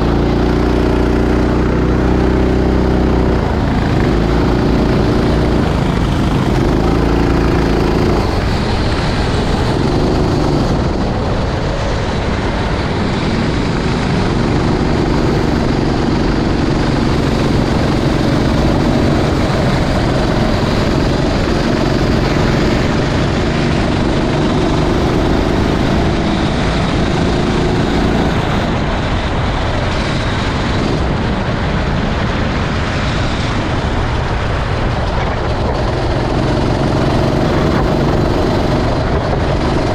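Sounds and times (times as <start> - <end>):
kart engine revving: 0.0 - 39.9
rushing noise: 0.0 - 39.9.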